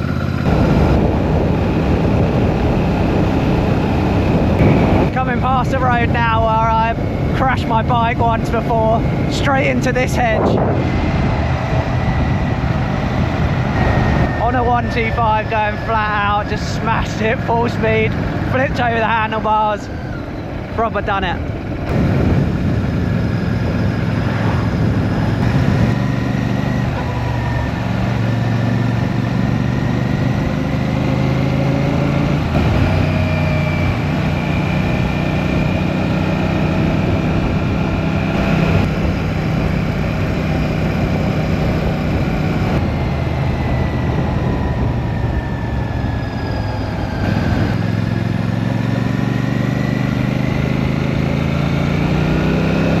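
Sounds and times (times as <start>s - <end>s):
motorcycle engine revving on road: 0.0s - 53.0s.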